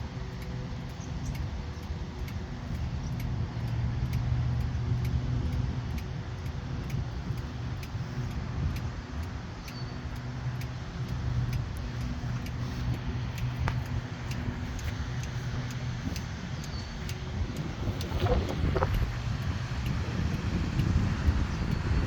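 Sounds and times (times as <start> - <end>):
light regular ticking: 0.0 - 22.0
low engine hum: 0.0 - 22.0.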